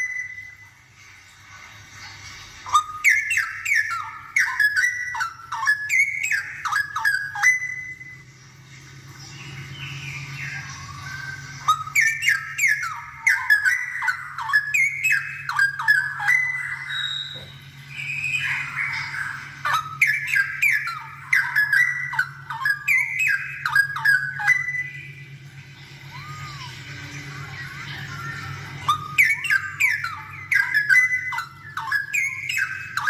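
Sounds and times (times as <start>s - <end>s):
bird singing rapid runs: 0.0s - 1.0s, 1.9s - 33.0s
steady low hum: 0.0s - 33.0s.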